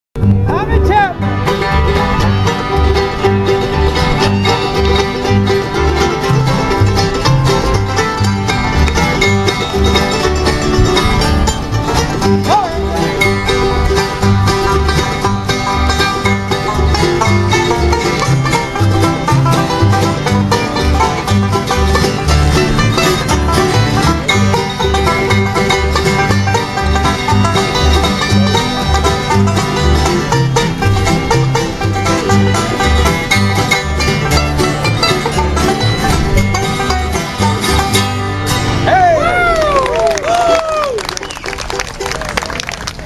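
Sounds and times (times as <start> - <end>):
band playing bluegrass music: 0.2 - 43.0.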